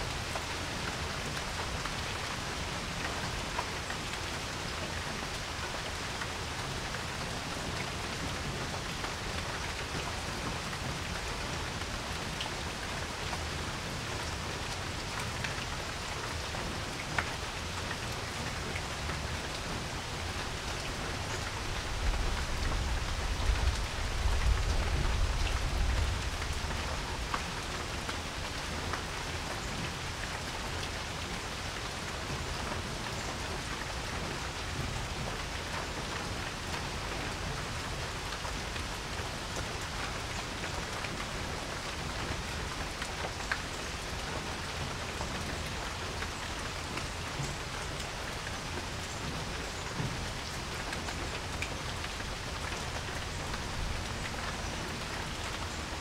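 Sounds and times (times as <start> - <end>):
rain falling on a porch: 0.0 - 56.0.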